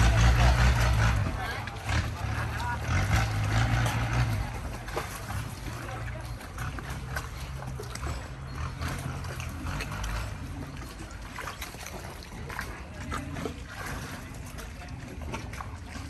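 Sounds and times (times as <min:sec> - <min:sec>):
boat engine humming: 0:00.0 - 0:16.0
faint voices: 0:00.0 - 0:16.0
water sounds: 0:00.0 - 0:16.0.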